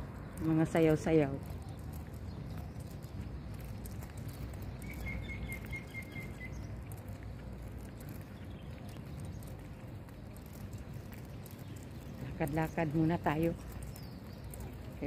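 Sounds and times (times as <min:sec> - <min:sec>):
footsteps walking: 0:00.0 - 0:15.0
small bird chirping: 0:00.0 - 0:15.0.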